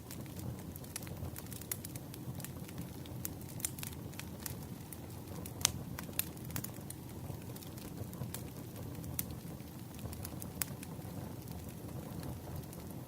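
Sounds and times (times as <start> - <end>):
campfire crackling and popping: 0.0 - 13.0
low roar of flames: 0.0 - 13.0.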